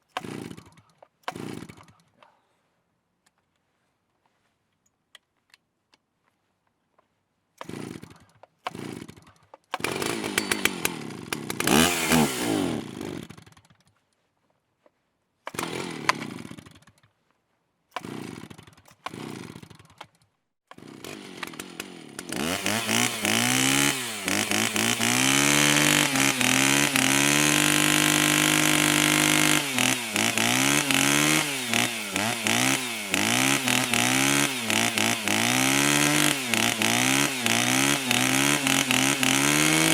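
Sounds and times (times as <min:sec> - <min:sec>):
chainsaw engine revving: 0:00.0 - 0:02.1, 0:07.6 - 0:13.9, 0:15.5 - 0:17.1, 0:17.9 - 0:39.9.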